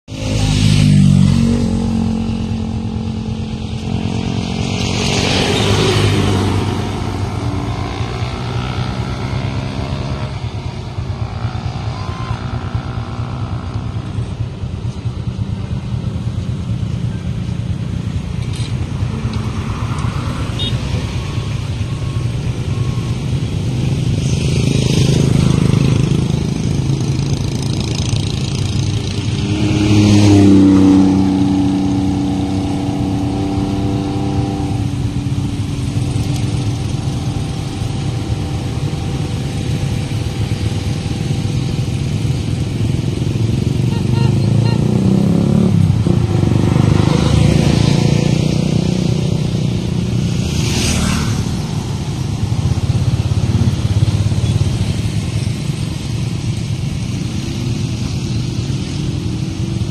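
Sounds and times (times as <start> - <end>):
motorcycle engines passing: 0.0 - 59.9.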